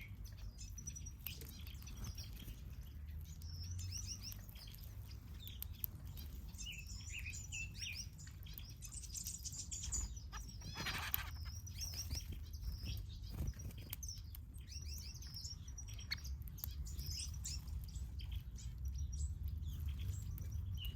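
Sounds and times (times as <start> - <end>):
finches chirping: 0.0 - 20.9.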